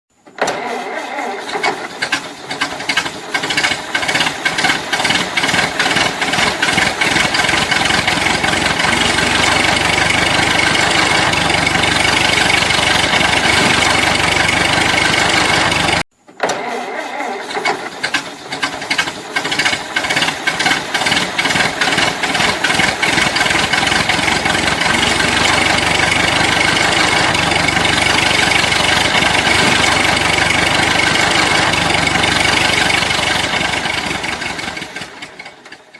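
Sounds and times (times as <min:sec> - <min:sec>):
car engine starting and sputtering: 0:00.4 - 0:35.9.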